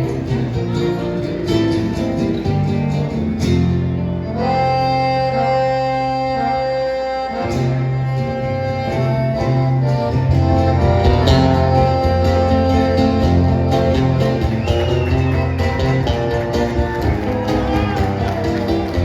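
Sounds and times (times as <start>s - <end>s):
bass line: 0.0s - 19.0s
guitar: 0.0s - 19.0s
melody of long held notes: 0.0s - 19.0s.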